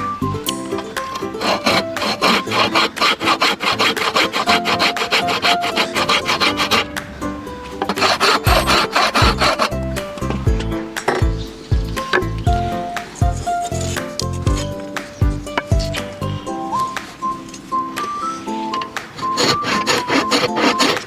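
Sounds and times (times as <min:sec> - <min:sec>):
background music: 0:00.0 - 0:21.0
hand tool rasping on wood: 0:01.0 - 0:07.1, 0:07.8 - 0:17.2, 0:18.2 - 0:21.0.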